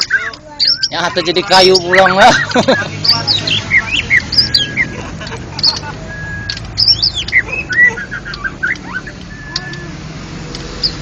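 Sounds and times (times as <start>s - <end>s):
bird singing whistled notes: 0.0s - 5.0s, 5.6s - 10.0s, 10.8s - 11.0s.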